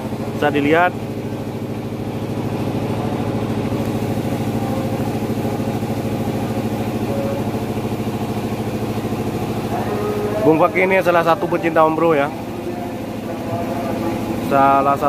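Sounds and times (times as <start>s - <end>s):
diesel generator running: 0.0s - 15.0s.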